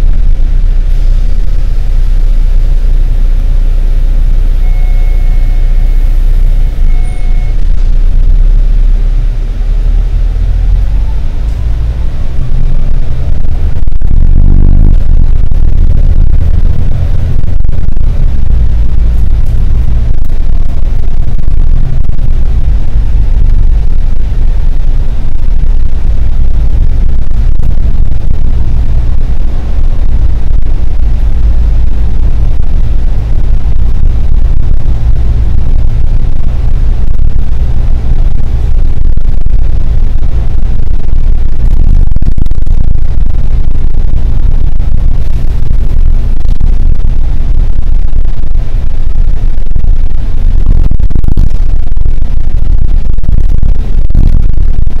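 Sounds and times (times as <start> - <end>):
bus rumbling on board: 0.0 - 55.0.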